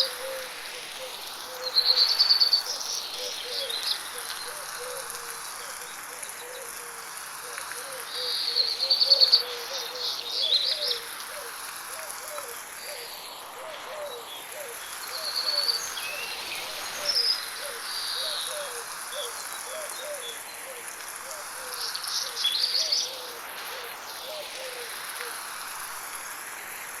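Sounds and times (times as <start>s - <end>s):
high insect drone: 0.0s - 27.0s
light rain hiss: 0.0s - 27.0s.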